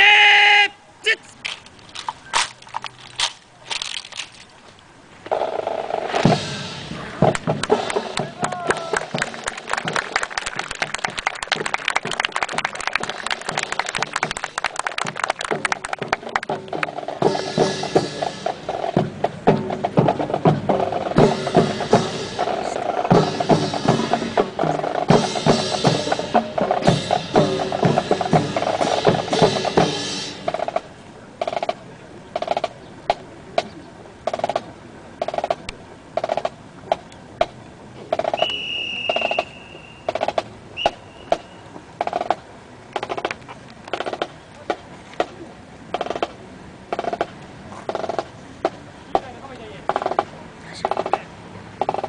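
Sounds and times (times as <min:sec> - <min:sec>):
marching drums with rolls: 0:05.2 - 0:52.0.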